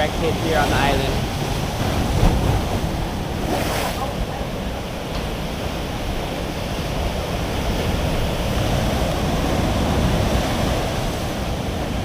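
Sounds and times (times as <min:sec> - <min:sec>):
heavy surf breaking on shore: 0:00.0 - 0:12.0.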